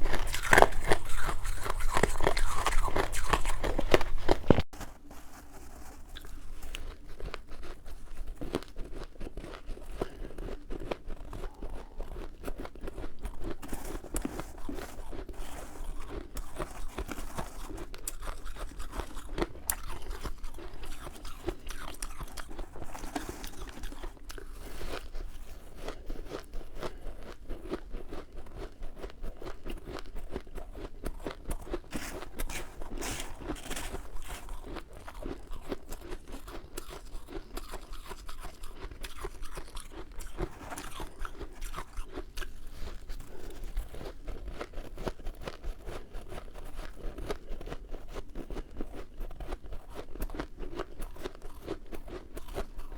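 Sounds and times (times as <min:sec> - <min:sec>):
chewing crunchy frost: 0:00.0 - 0:52.9.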